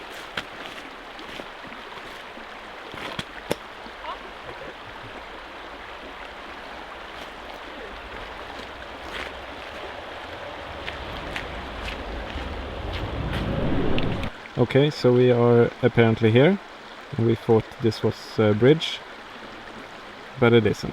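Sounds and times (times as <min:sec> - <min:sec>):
river water flowing: 0:00.0 - 0:20.9.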